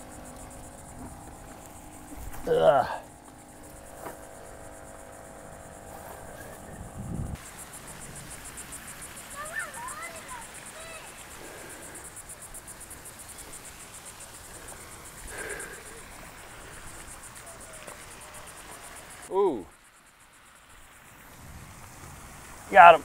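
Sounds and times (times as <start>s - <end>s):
high-pitched pulsing insect call: 0.0s - 23.0s
short insect chirps: 0.0s - 23.0s.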